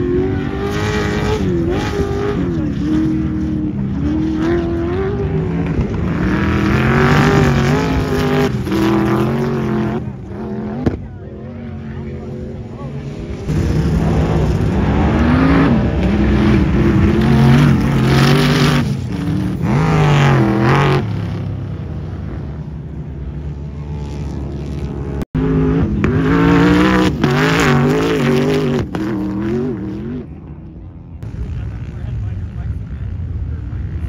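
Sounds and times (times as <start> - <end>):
sand rail engines revving: 0.0 - 34.0.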